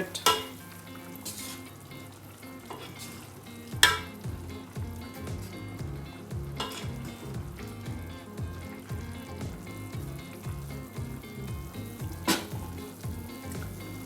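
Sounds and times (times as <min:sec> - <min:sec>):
soup bubbling in a pot: 0:00.0 - 0:14.0.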